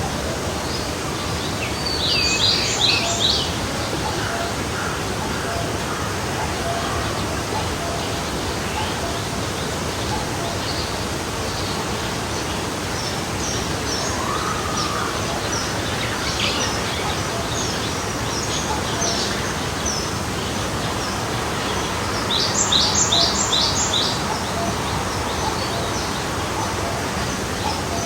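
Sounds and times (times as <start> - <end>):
stream rushing: 0.0 - 28.0.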